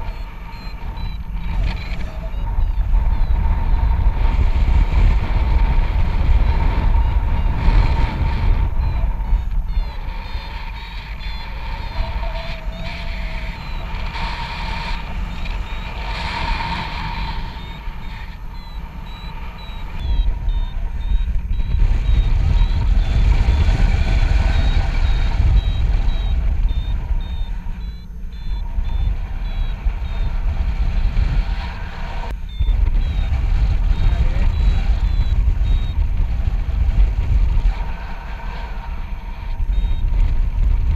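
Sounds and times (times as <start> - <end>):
high-pitched electronic beeps: 0.0 - 36.1, 37.8 - 40.1
wind buffeting microphone: 0.0 - 40.9.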